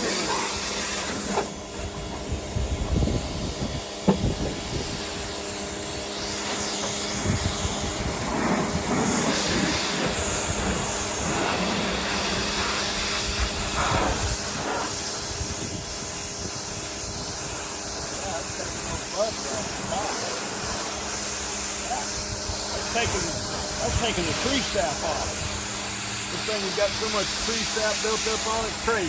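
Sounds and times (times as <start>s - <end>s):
water spray hissing: 0.0s - 1.9s, 2.5s - 29.0s
pump humming: 0.0s - 29.0s.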